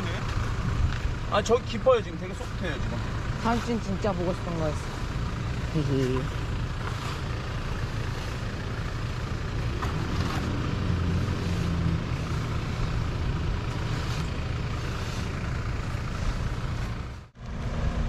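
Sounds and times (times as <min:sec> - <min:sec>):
vehicle engine running under load: 0:00.0 - 0:18.0.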